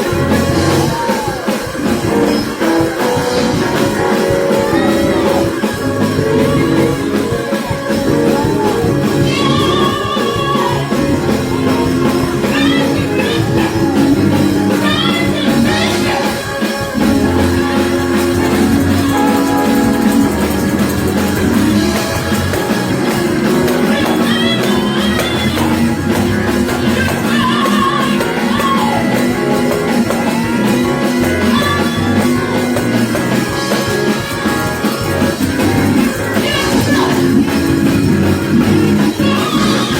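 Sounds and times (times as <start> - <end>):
live worship band music: 0.0 - 39.9
voices singing: 0.0 - 39.9.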